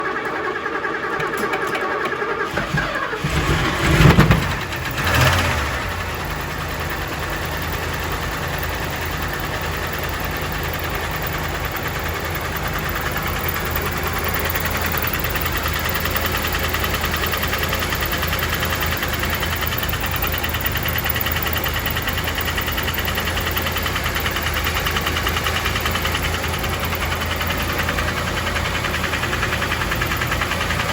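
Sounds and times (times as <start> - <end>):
car engine cranking: 0.0 - 30.9
engine idling with knocking: 0.0 - 30.9
engine revving: 2.4 - 30.9.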